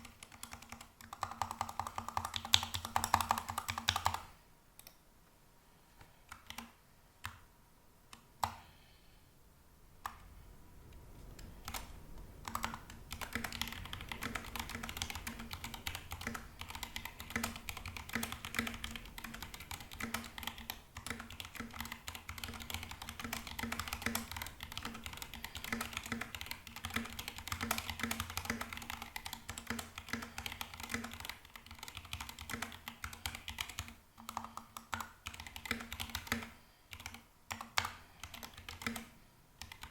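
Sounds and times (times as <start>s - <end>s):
mechanical keyboard typing: 0.0s - 4.9s, 6.3s - 7.4s, 11.6s - 39.9s.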